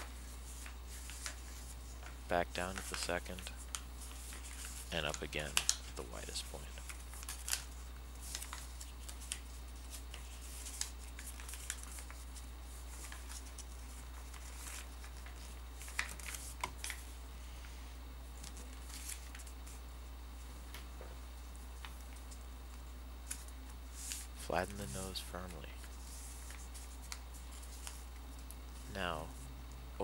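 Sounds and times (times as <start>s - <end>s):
paper crackling and rustling: 0.0s - 17.2s, 18.4s - 19.8s, 20.6s - 29.0s
steady low hum: 0.0s - 30.0s.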